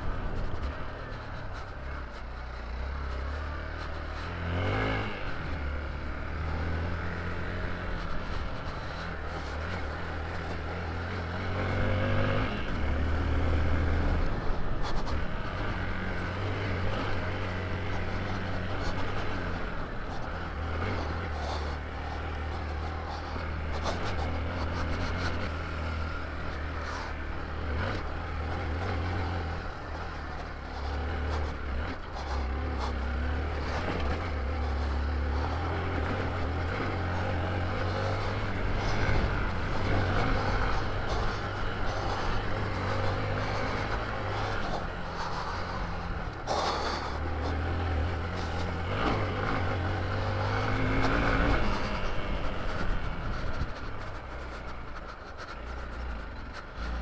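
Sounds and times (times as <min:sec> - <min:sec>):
motorcycle engine running: 0:00.0 - 0:57.0
wind and tyre noise: 0:00.0 - 0:57.0.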